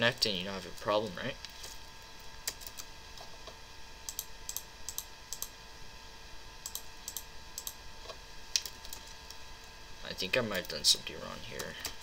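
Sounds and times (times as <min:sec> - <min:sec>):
computer humming: 0:00.0 - 0:12.0.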